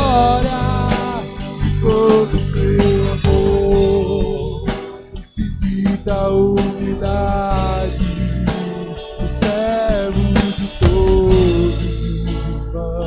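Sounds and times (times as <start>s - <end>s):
live worship band playing: 0.0s - 13.0s
sustained keyboard chords: 0.0s - 13.0s.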